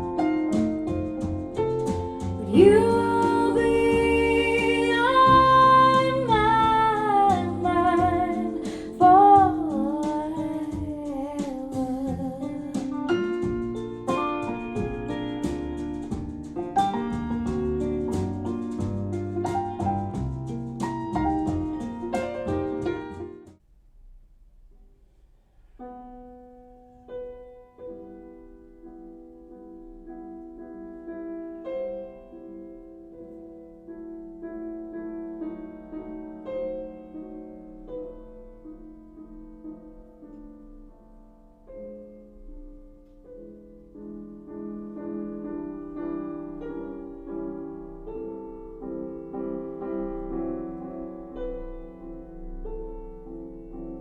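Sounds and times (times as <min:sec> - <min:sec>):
solo piano music: 0:00.0 - 0:23.6, 0:25.8 - 0:54.0.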